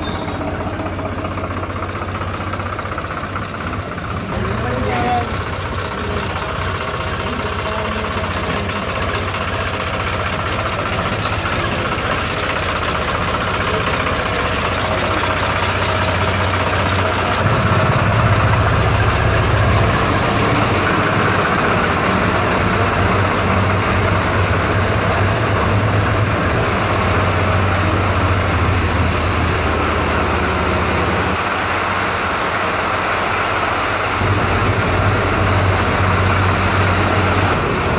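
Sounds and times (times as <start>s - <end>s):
tractor diesel engine humming: 0.0s - 37.9s.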